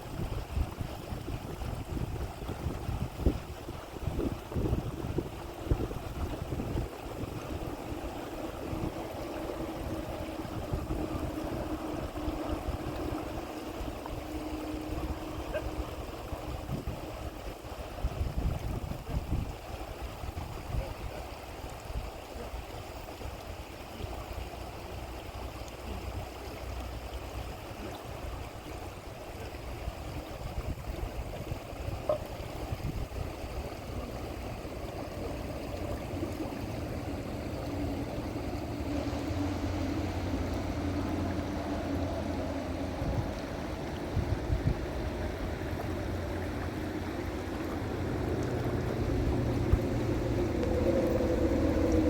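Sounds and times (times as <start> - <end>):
low rumbling: 0.0 - 21.2, 29.9 - 52.0
river water flowing: 0.0 - 52.0.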